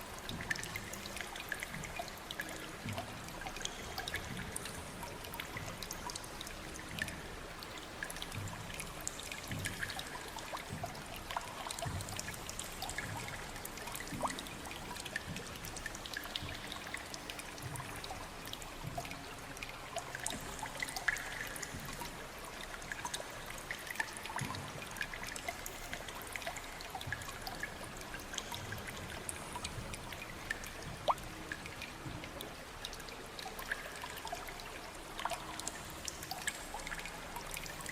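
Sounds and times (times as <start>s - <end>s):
water drips and splashes: 0.0s - 37.9s
water trickling and pouring: 0.0s - 37.9s.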